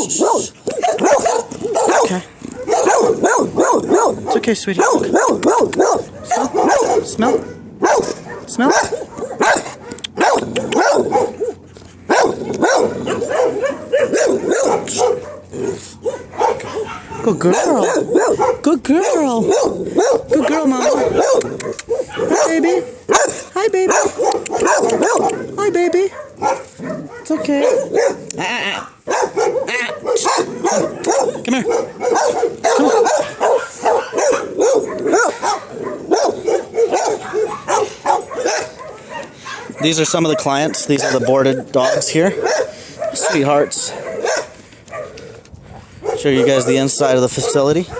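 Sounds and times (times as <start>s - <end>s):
dogs barking: 0.0s - 47.9s.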